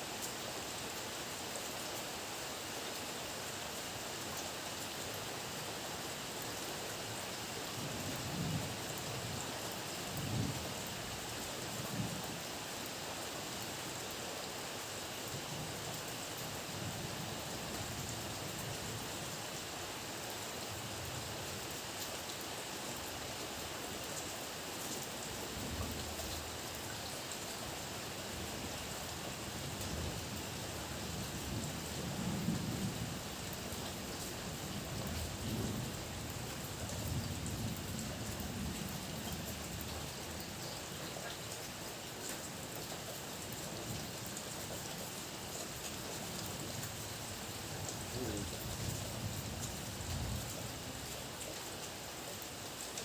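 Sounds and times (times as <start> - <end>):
heavy rain downpour: 0.0 - 53.0.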